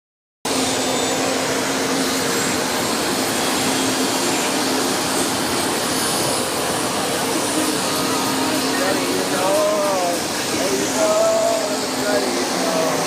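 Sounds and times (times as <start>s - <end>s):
jet engine whine: 0.5s - 13.0s.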